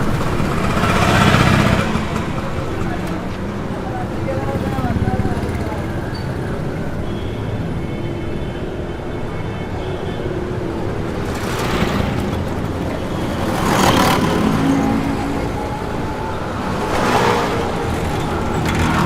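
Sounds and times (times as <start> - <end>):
traffic rumble: 0.0 - 19.0
vehicles passing close by: 0.0 - 19.0.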